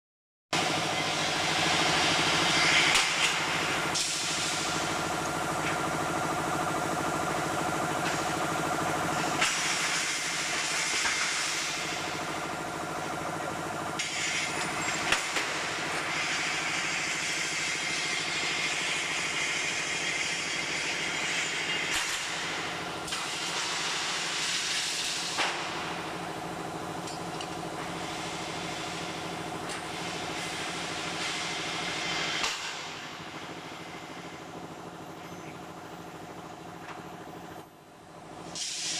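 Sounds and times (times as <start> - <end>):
machine hum with hiss: 0.6 - 38.9.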